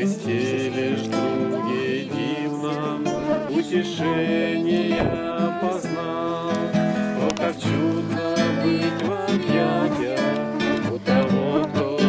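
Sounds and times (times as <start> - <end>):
acoustic guitar strumming: 0.0 - 12.0
voices singing: 0.0 - 12.0.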